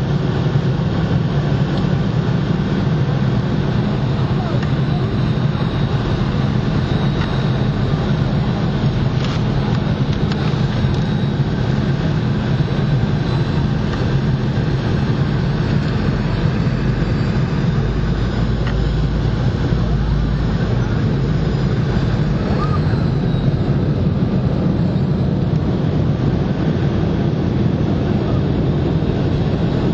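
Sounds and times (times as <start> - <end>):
aircraft cabin engine noise: 0.0 - 29.9
deep low rumble: 0.0 - 29.9.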